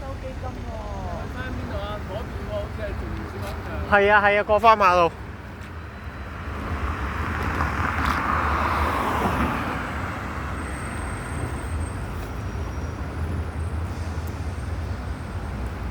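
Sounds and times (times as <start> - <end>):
bus engine rumble: 0.0 - 15.9.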